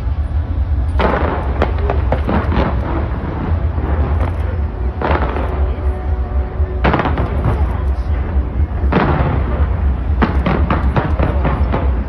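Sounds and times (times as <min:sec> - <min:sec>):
low rumble: 0:00.0 - 0:12.0
fireworks bangs and crackles: 0:00.1 - 0:12.0.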